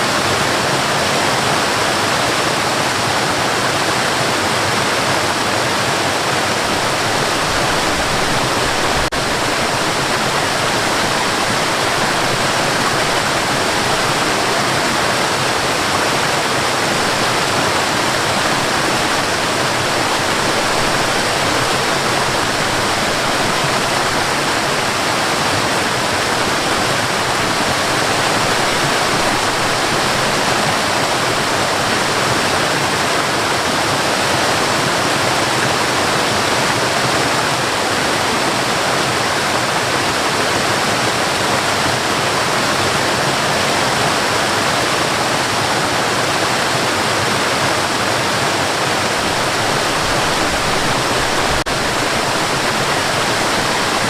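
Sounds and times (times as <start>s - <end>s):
waterfall and river rushing: 0.0s - 54.0s.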